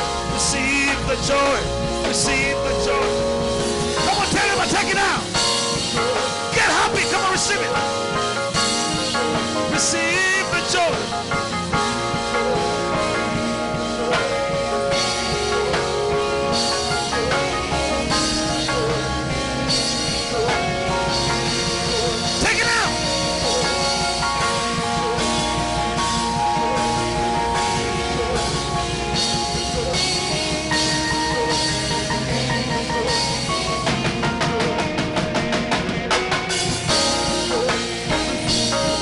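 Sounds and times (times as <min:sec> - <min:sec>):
worship band music: 0:00.0 - 0:39.0.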